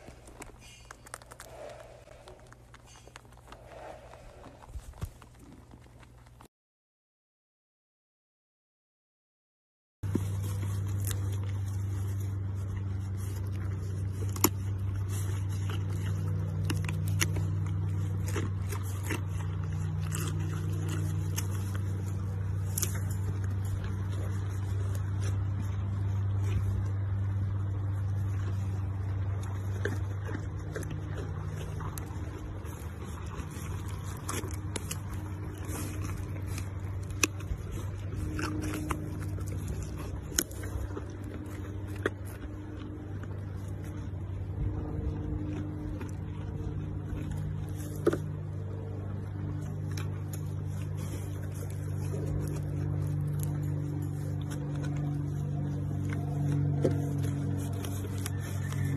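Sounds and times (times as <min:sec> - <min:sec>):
low hum: 0:00.0 - 0:06.5, 0:10.0 - 0:58.9
sheep crunching carrots: 0:00.0 - 0:06.5, 0:10.0 - 0:58.9.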